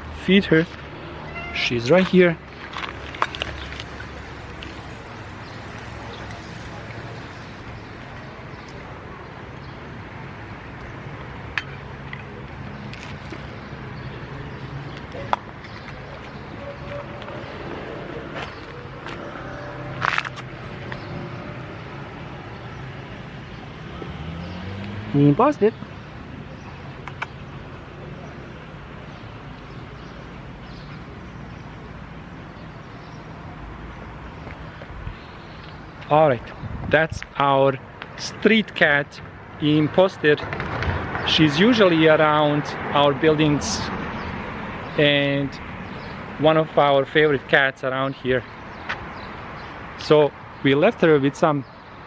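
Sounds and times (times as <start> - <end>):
distant traffic hum: 0.0 - 52.0
outdoor street noise: 0.0 - 52.0.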